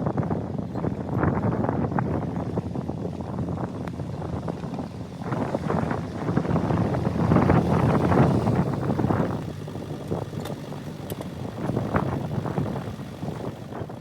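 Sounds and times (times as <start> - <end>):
snowblower rough rushing noise: 0.0 - 14.0.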